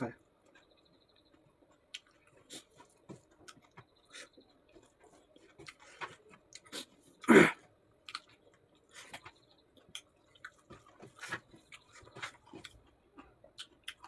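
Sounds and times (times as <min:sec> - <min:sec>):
chewing with mouth smacks: 0:00.4 - 0:14.0.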